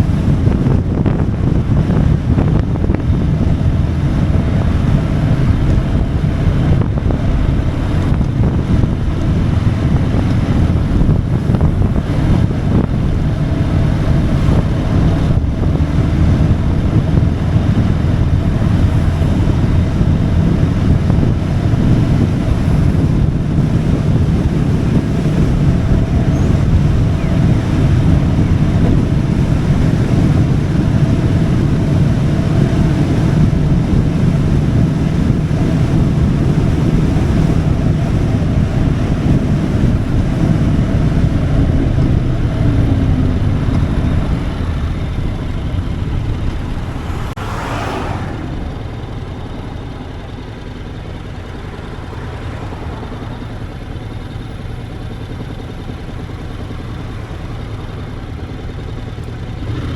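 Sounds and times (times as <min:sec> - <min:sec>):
wind rush on microphone: 0:00.0 - 0:50.5
motorcycle engine running: 0:00.0 - 0:59.9.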